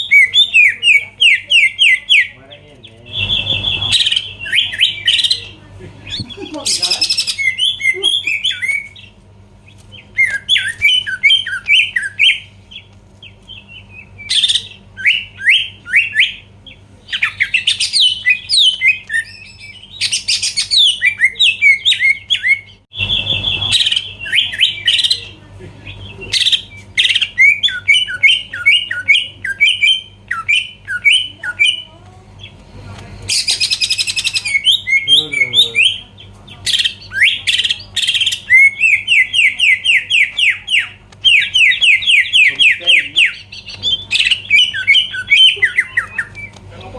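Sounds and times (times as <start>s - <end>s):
harsh raspy bird calls: 0.0s - 32.6s, 33.3s - 46.9s
steady low hum: 0.0s - 46.9s.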